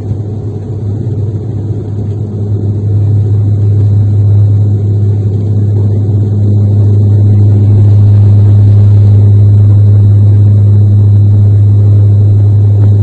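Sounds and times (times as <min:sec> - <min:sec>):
airliner engines at takeoff power: 0:00.0 - 0:13.0.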